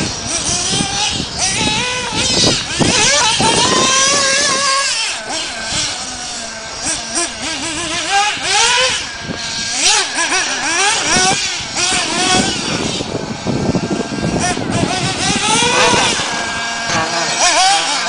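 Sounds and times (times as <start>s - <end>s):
remote control buggy engines whining: 0.0s - 18.0s.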